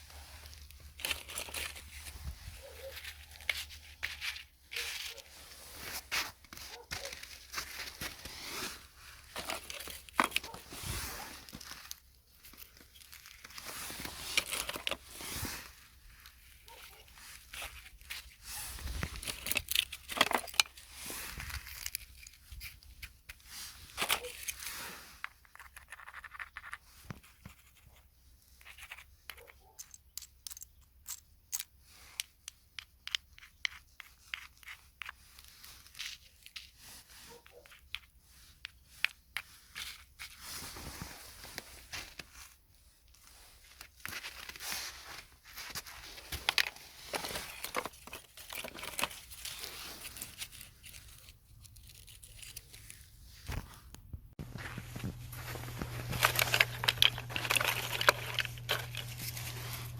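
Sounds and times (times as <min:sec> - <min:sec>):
crinkling and scratching: 0:00.0 - 0:59.9.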